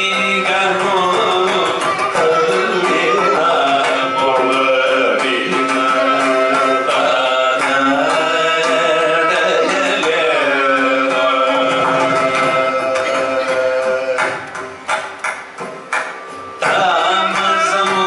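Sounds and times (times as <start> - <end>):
men singing together: 0.0 - 14.5, 16.6 - 18.0
violin: 0.0 - 14.6
hand drum percussion: 0.0 - 18.0.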